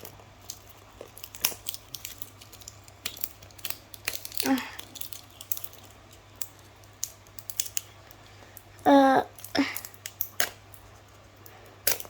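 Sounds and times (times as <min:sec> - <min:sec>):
packaging clicking and crinkling: 0:00.0 - 0:08.7, 0:09.3 - 0:12.0.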